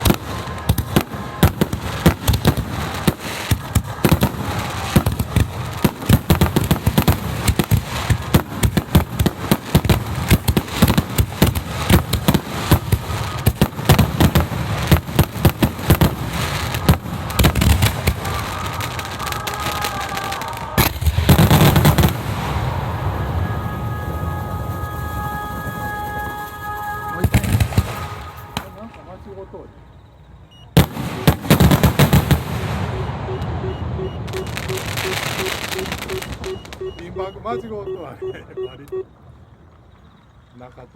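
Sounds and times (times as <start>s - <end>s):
fireworks launching and bursting: 0.0s - 29.4s, 30.6s - 39.0s.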